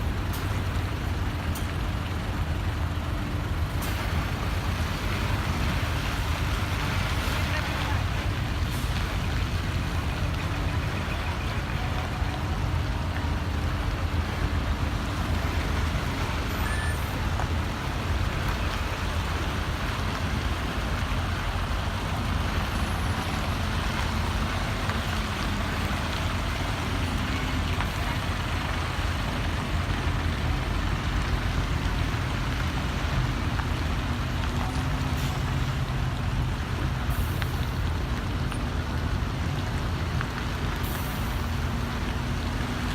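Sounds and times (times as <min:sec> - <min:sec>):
diesel truck engines rumbling: 0:00.0 - 0:42.9.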